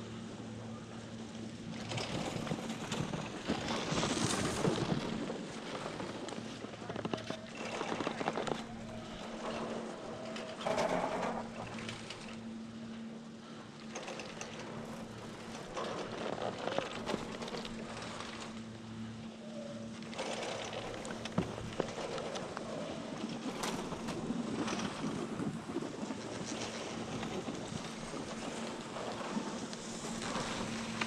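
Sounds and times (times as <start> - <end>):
skis scraping over snow: 1.8 - 12.3, 14.4 - 18.6, 20.2 - 31.0.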